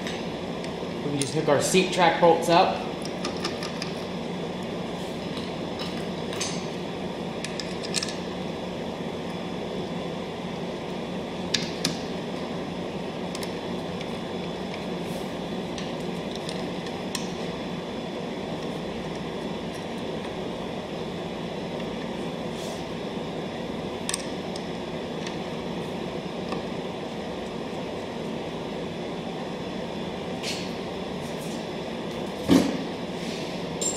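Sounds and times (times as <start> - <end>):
steady background hum: 0.0 - 33.9.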